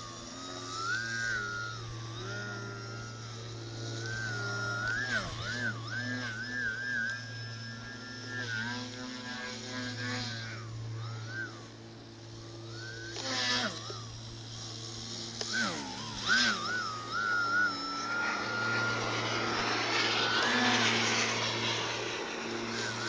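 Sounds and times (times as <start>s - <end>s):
model plane electric motor whining: 0.0s - 23.0s.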